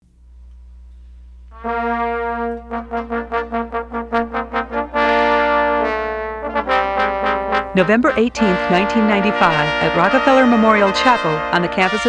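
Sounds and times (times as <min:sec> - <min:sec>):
steady low hum: 0:00.0 - 0:12.0
brass fanfare: 0:01.5 - 0:12.0.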